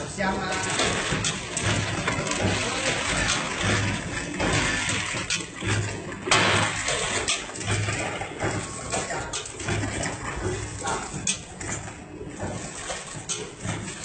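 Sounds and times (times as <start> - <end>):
popcorn rattling and pouring: 0.0 - 14.0.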